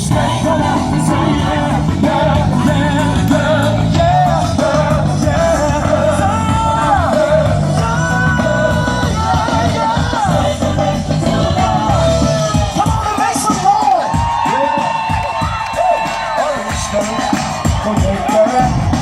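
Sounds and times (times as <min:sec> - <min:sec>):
band with steady bass line: 0:00.0 - 0:19.0
gospel singing: 0:00.0 - 0:19.0.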